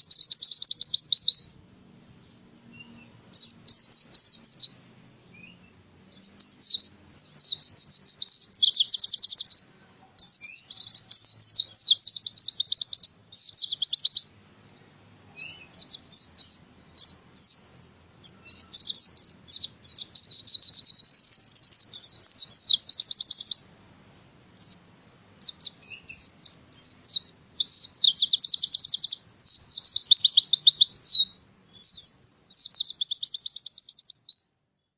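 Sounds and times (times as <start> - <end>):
bird chattering trills: 0.0 - 34.4.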